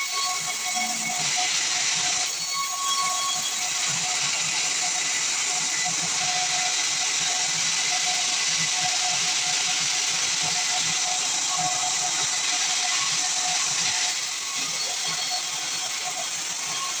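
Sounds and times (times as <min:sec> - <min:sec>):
band saw cutting wood: 0:00.0 - 0:17.0.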